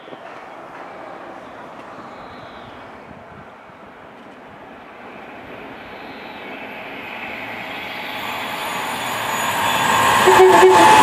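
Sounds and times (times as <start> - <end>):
train approaching: 0.0 - 11.0.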